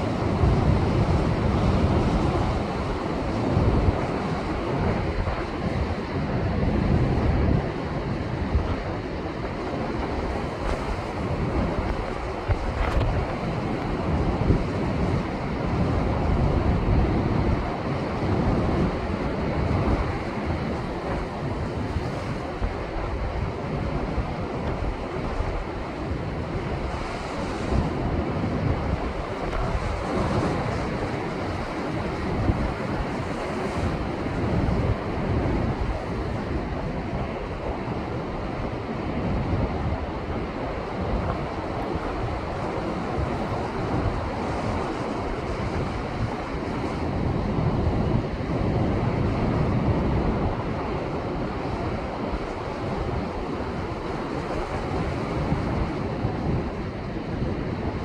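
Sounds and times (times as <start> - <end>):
wind buffeting microphone: 0.0 - 58.0
surf crashing over rocks: 7.2 - 38.9, 39.8 - 58.0.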